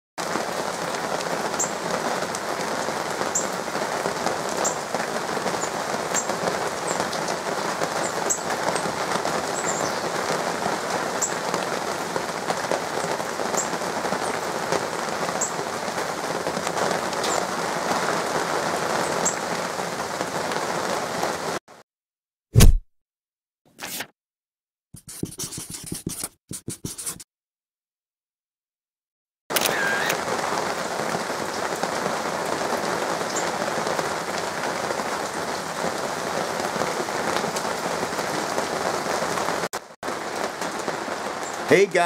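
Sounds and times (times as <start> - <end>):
steady rain falling: 0.2 - 21.6, 29.5 - 42.0.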